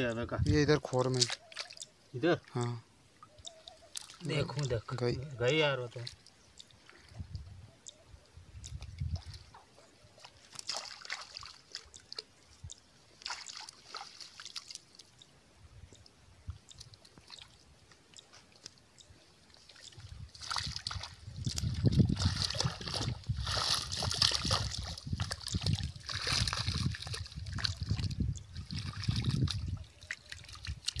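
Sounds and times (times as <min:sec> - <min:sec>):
shallow water splashing: 0:00.9 - 0:07.3, 0:08.6 - 0:15.3, 0:16.8 - 0:31.0.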